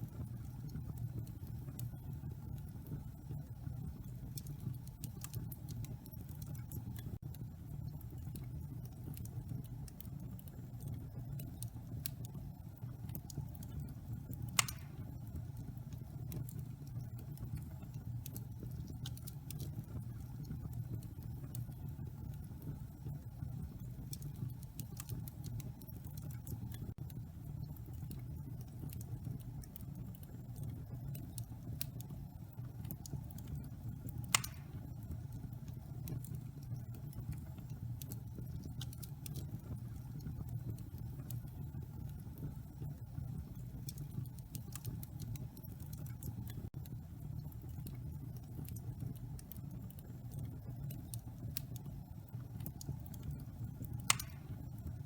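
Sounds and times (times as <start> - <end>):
fire crackling and popping: 0.0 - 55.0
wood fire rumbling: 0.2 - 55.0.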